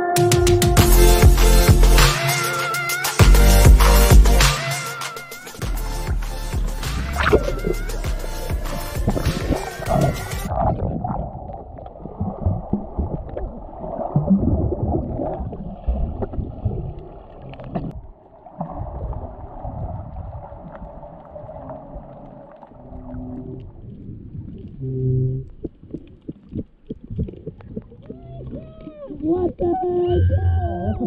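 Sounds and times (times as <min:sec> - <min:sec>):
water churning and sloshing underwater: 0:05.2 - 0:31.0.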